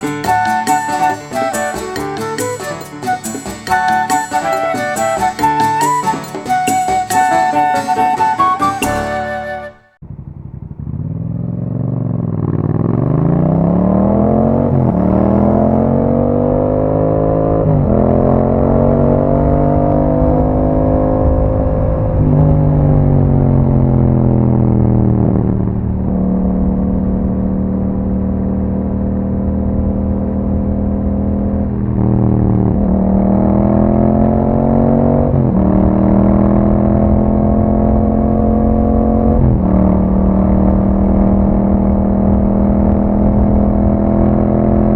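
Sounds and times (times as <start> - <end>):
motorcycle engine accelerating: 8.4 - 44.9.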